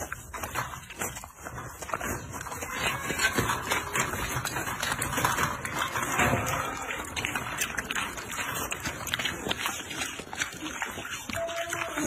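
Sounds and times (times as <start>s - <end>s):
piglets licking and chewing: 0.0s - 12.0s.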